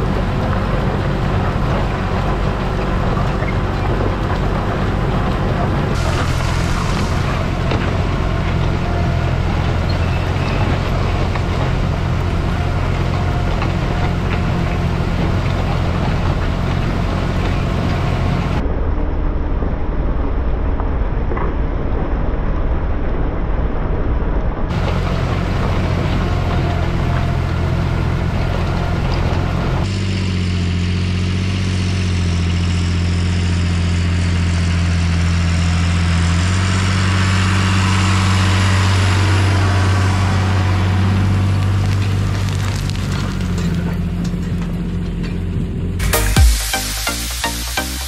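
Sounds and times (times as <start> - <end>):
tractor engine droning: 0.0 - 48.0.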